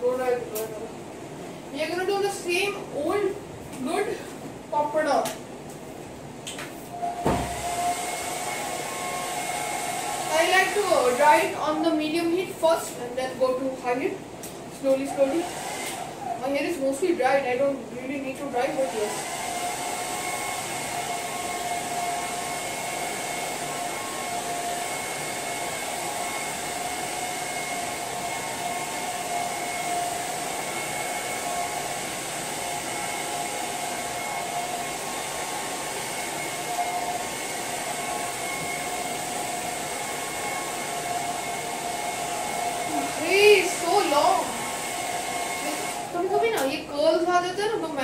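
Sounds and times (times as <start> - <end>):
hair dryer running: 0.0 - 48.0.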